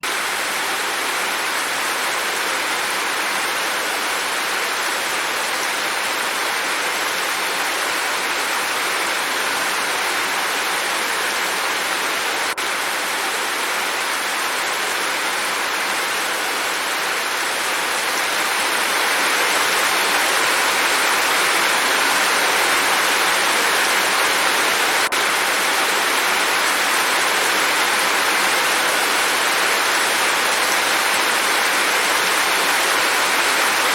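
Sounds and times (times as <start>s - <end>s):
dense rain hiss: 0.0s - 33.9s.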